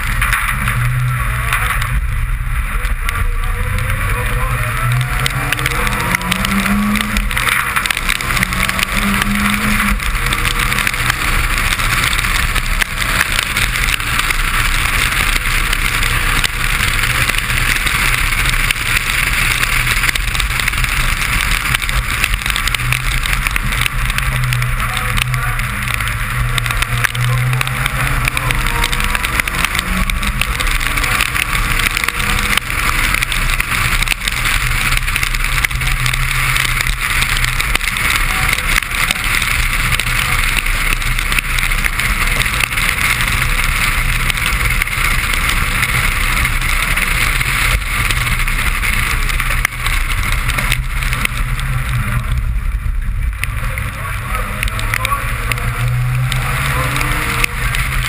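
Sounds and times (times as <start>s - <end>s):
rally car engine at speed: 0.0s - 58.0s
tyres hissing on wet road: 0.0s - 58.0s.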